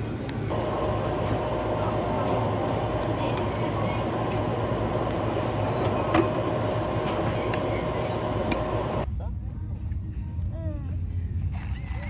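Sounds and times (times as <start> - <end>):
machinery hum and hiss: 0.0 - 11.4.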